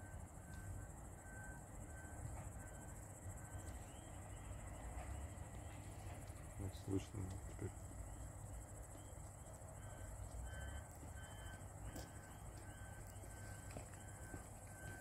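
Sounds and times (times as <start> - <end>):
crickets chirping: 0.0 - 15.0
faint electronic warning beeps: 0.0 - 15.0.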